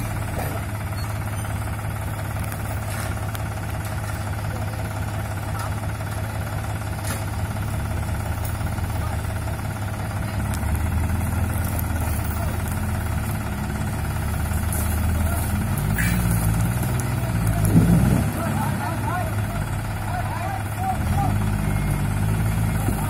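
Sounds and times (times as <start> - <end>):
tractor diesel engine idling: 0.0 - 23.0.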